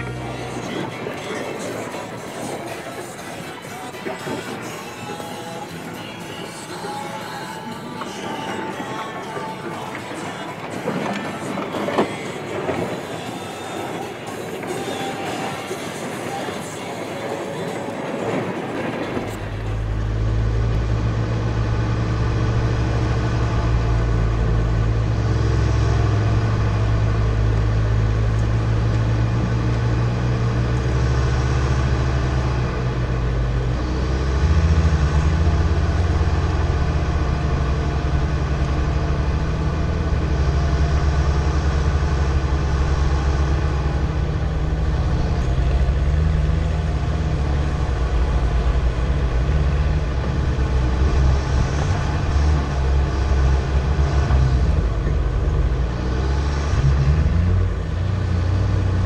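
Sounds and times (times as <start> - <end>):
vehicle engine low drone: 0.0 - 59.0.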